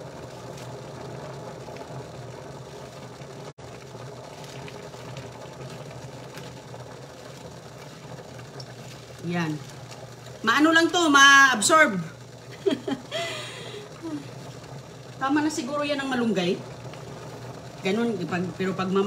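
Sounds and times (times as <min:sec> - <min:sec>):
kitchen fan humming: 0:00.0 - 0:19.0.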